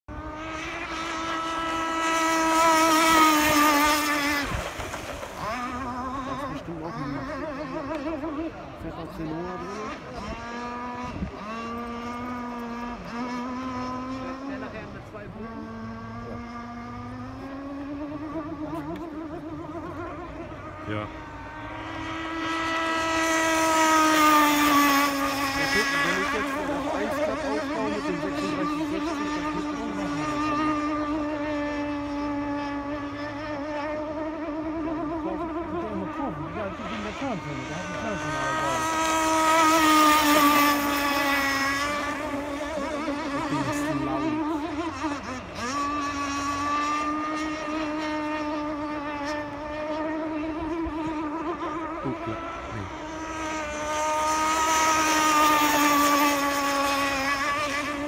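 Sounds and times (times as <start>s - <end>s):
model boat engine whine: 0.1s - 58.0s.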